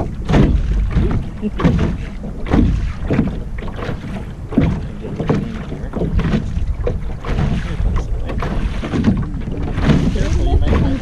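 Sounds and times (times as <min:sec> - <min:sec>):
water slapping against hull: 0:00.0 - 0:11.0
wind rumbling on microphone: 0:00.0 - 0:11.0.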